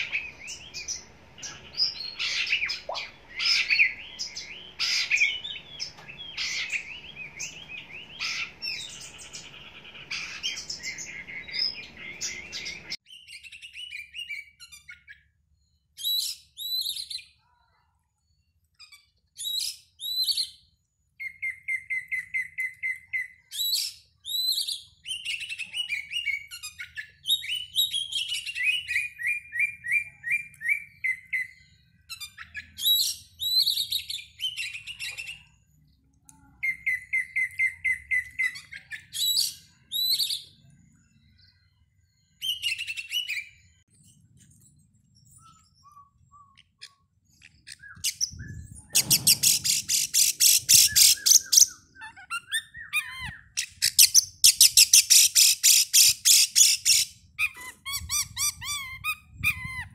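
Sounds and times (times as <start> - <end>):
bird singing whistles and trills: 0.0 - 17.4, 18.4 - 35.9, 36.5 - 43.9, 45.0 - 59.9
background noise: 0.0 - 59.9.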